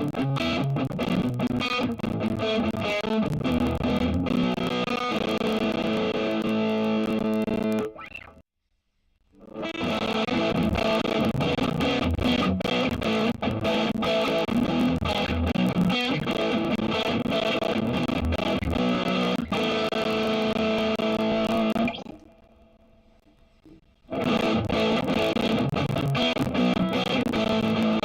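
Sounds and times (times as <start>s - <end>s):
distorted electric guitar riff: 0.0s - 8.4s, 9.3s - 28.0s.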